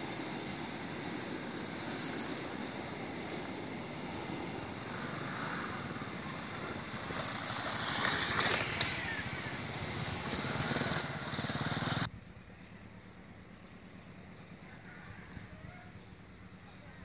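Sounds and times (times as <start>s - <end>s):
small motorcycle engines: 0.0s - 17.0s.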